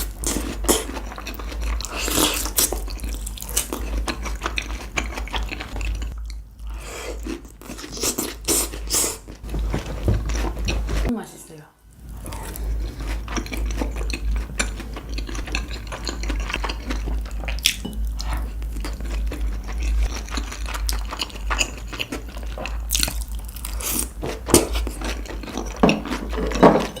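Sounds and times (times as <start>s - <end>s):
chewing and crunching food: 0.0s - 11.1s, 11.9s - 27.0s.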